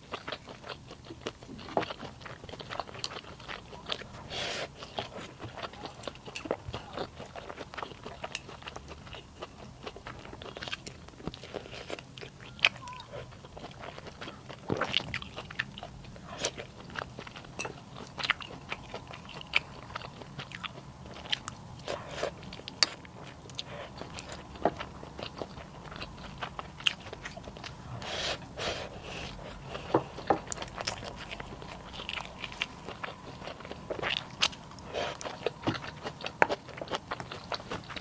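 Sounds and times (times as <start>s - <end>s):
person chewing and crunching: 0.0s - 38.0s.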